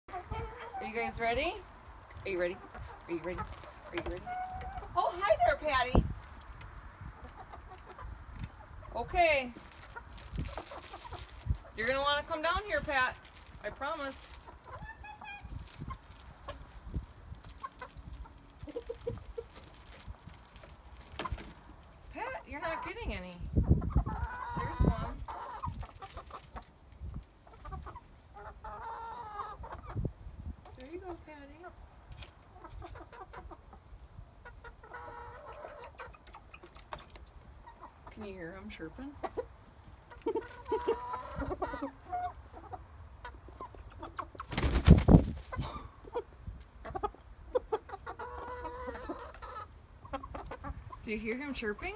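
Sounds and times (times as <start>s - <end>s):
chickens clucking: 0.1s - 51.9s.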